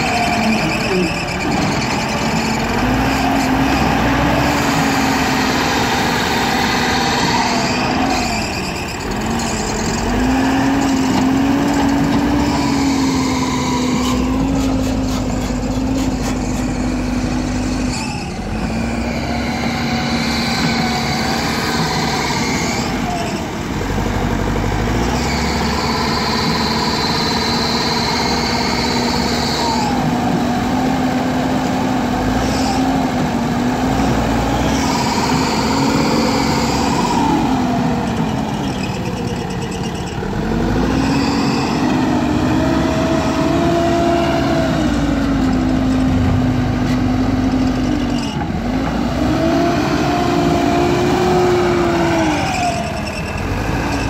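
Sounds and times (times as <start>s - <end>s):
diesel engine revving: 0.0s - 54.0s
high engine whine: 0.0s - 54.0s.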